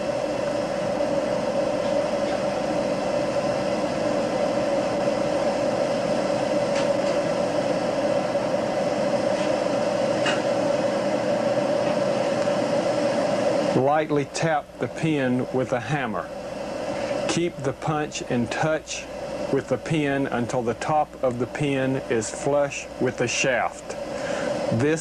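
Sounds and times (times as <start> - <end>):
steady hum and hiss: 0.0 - 25.0.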